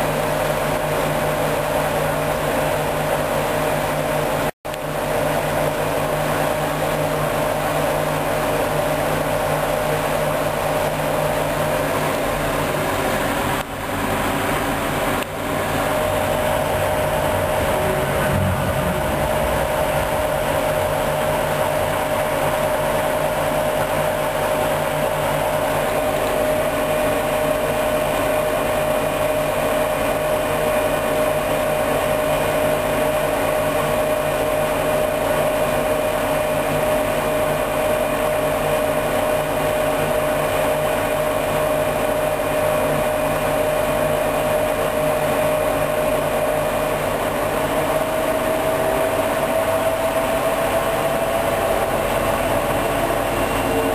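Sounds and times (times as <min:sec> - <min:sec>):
washing machine spinning: 0:00.0 - 0:53.9.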